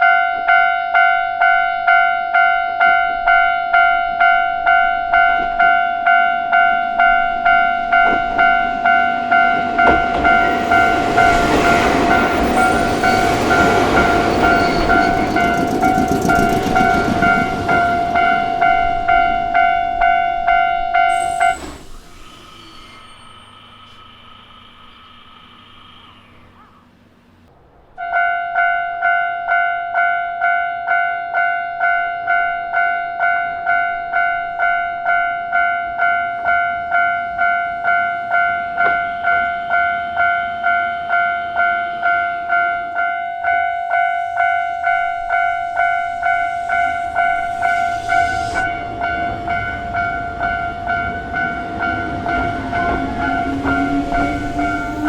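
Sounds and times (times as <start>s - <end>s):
electronic crossing warning bell: 0.0s - 22.2s, 28.1s - 55.0s
approaching train rumble: 0.0s - 55.0s.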